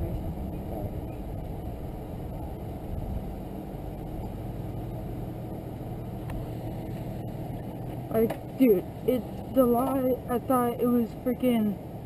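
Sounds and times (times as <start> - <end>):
low hum: 0.0 - 12.0
vehicle engine idling: 0.0 - 12.0.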